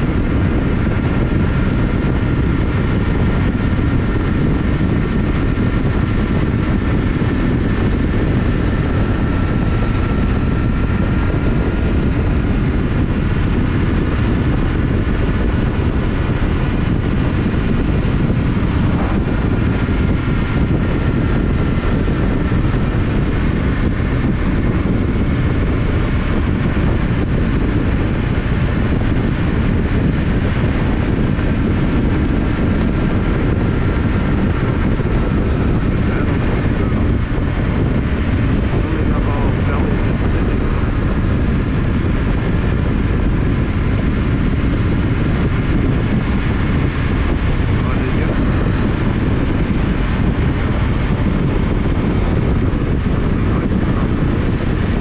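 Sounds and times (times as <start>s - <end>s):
faint steady whine: 0.0s - 55.0s
motorcycle engine drone: 0.0s - 55.0s
wind rush on microphone: 0.0s - 55.0s.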